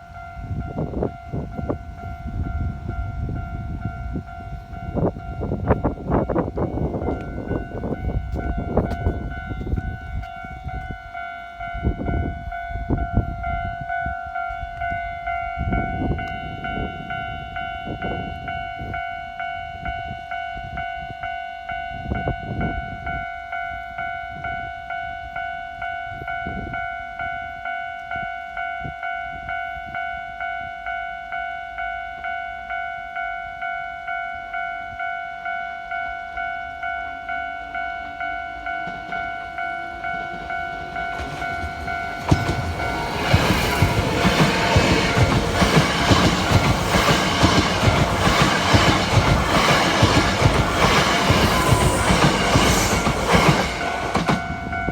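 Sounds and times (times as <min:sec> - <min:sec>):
train rumble and wheel clatter: 0:00.0 - 0:31.8, 0:36.4 - 0:54.9
level-crossing warning bell: 0:00.0 - 0:54.9.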